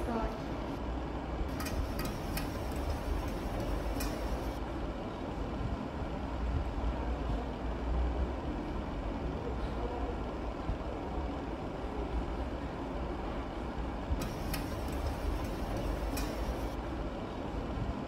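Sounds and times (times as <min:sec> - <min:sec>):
background machinery rumble: 0:00.0 - 0:18.0.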